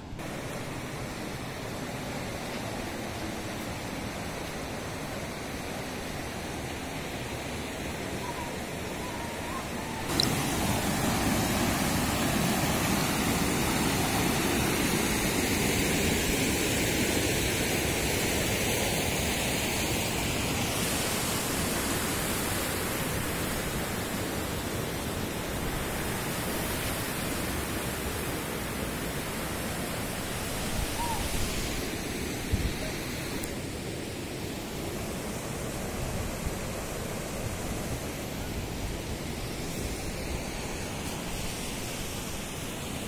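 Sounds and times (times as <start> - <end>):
river water rushing over rocks: 0.0 - 43.0.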